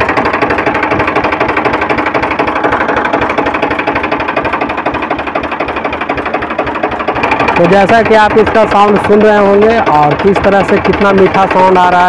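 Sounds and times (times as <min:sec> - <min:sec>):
diesel tractor engine clattering: 0:00.0 - 0:12.0.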